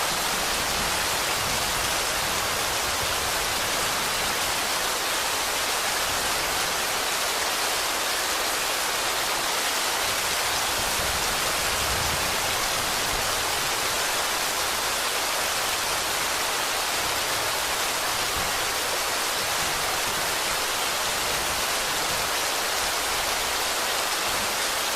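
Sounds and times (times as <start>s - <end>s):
steady rain hissing: 0.0s - 24.9s.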